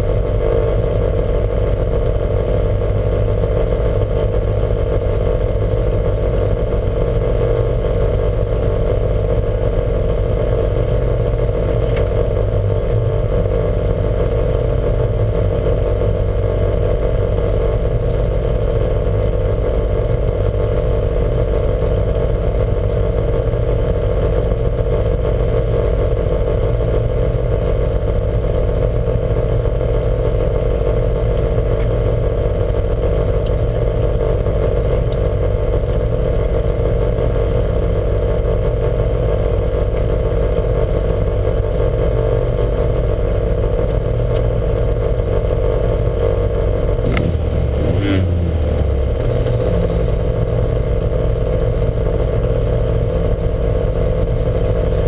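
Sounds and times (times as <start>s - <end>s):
clatter: 0.0s - 55.0s
race car engine running: 0.0s - 55.0s.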